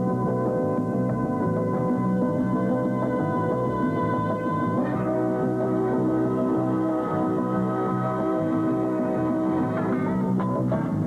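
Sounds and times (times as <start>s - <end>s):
background music with held chords: 0.0s - 11.0s.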